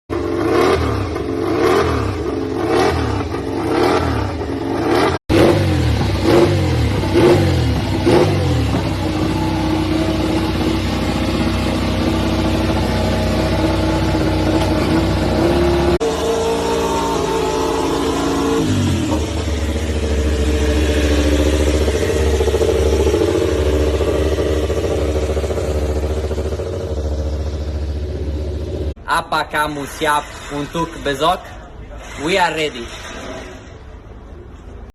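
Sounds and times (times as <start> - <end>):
racing motorcycle engines revving: 0.1 - 29.0.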